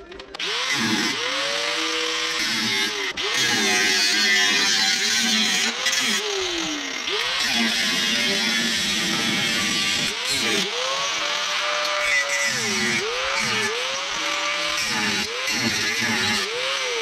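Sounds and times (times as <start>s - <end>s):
power tool motor running: 0.4s - 17.0s.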